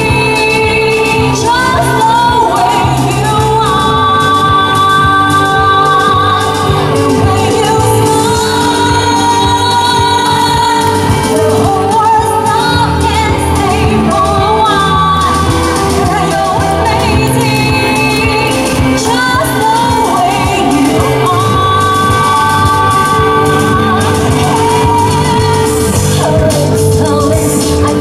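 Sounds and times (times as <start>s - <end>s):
band playing pop: 0.0s - 28.0s
woman singing into microphone: 0.0s - 28.0s.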